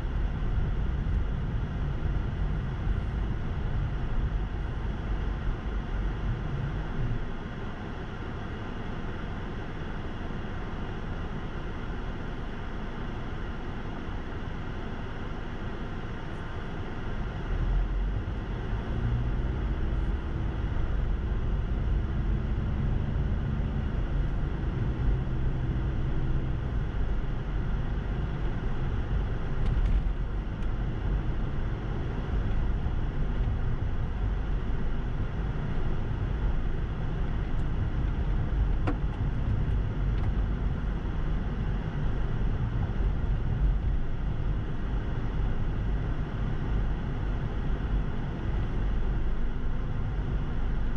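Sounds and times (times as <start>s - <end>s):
car engine hum: 0.0s - 50.9s.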